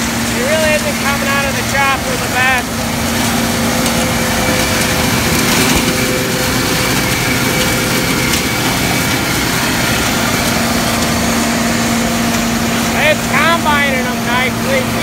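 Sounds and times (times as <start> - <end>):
combine harvester droning: 0.0 - 15.0
straw chopper rushing: 0.0 - 15.0.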